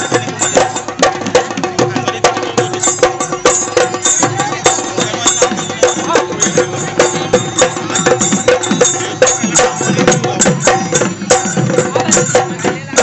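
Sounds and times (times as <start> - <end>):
folk music with dhol drumming: 0.0 - 13.0.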